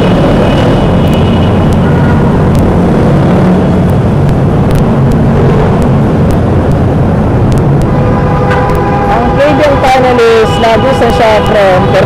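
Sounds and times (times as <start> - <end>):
motorcycle engines cruising: 0.0 - 12.0
wind and road noise: 0.0 - 12.0.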